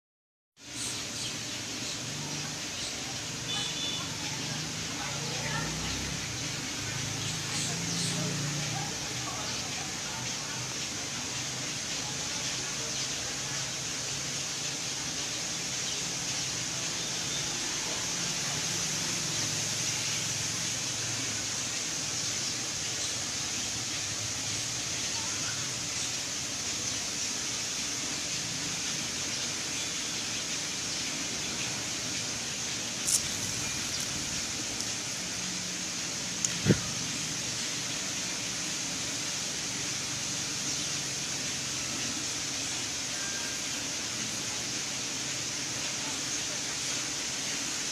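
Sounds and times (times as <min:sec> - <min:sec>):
background hiss: 0:00.6 - 0:47.9.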